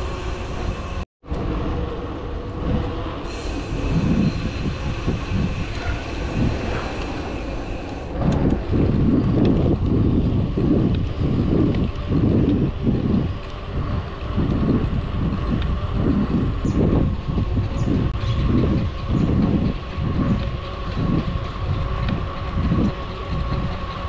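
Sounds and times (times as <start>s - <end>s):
bicycle tyre and drivetrain noise: 0.0s - 24.0s
faint steady whines: 0.0s - 24.0s
wind rumbling on microphone: 0.0s - 24.0s.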